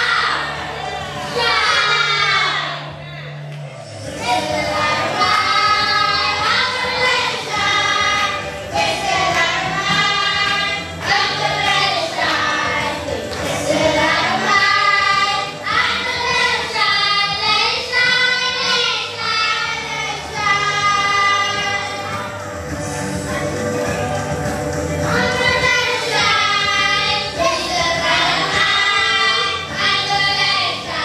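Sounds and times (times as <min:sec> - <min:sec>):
children singing into microphones: 0:00.0 - 0:02.9, 0:04.0 - 0:24.1, 0:25.0 - 0:31.0.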